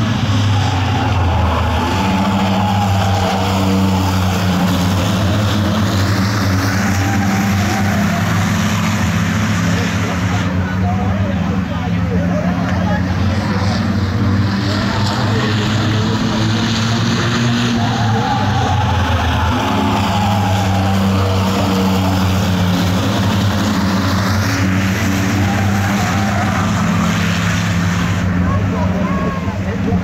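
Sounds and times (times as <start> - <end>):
racing car engines droning: 0.0 - 30.0.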